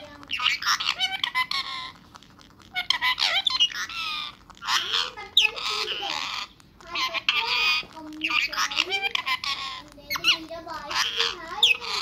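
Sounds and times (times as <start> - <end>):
parakeet squawking and chattering: 0.0 - 12.0.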